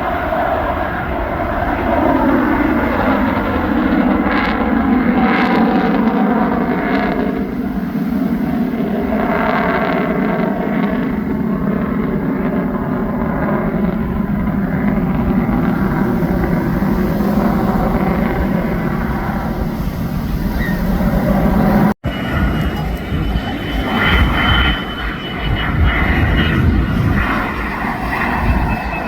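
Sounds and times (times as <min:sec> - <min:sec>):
jet engine running loud: 0:00.0 - 0:29.0.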